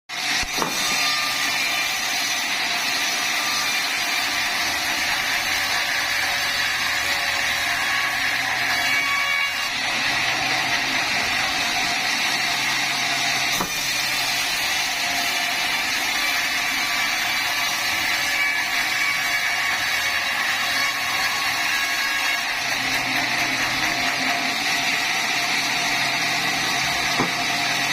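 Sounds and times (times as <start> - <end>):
sawmill machinery running: 0.1 - 27.9.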